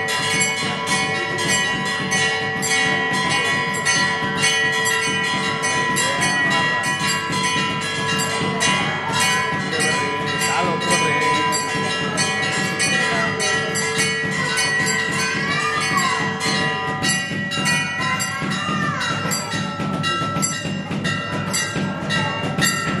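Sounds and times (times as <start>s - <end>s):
temple bells ringing: 0.0s - 23.0s.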